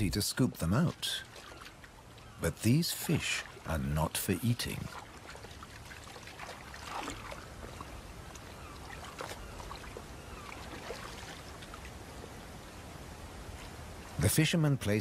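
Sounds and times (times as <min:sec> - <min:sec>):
water drips: 0:00.0 - 0:12.1
water trickling and splashing: 0:00.0 - 0:14.3.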